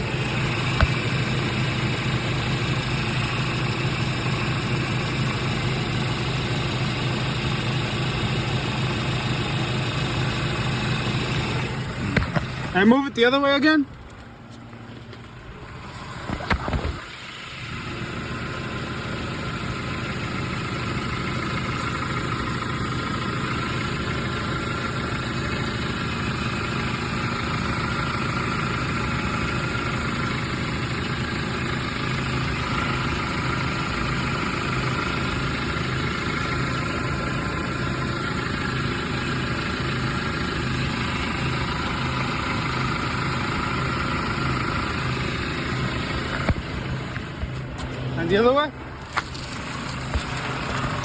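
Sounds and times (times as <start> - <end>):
car engine starting and idling: 0.0 - 51.0.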